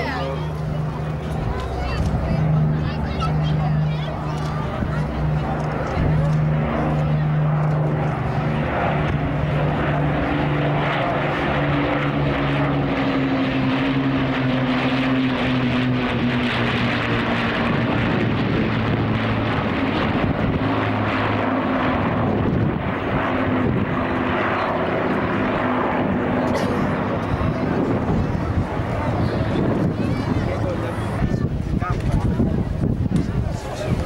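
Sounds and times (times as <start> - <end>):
propeller aircraft flying past: 0.0 - 34.0.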